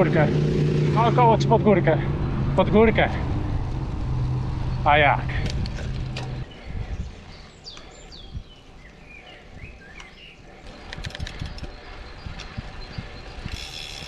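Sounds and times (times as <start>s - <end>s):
birds chirping: 0.0s - 14.0s
wind buffeting microphone: 2.1s - 14.0s.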